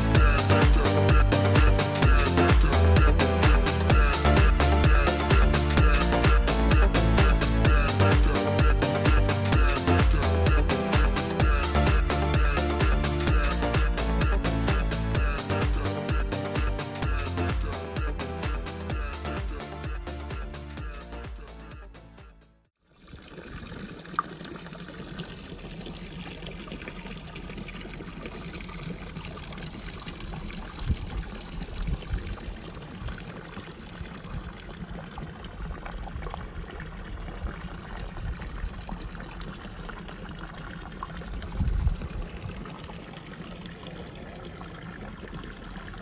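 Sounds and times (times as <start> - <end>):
fountain water pouring and splashing: 0.0 - 20.7, 22.8 - 46.0.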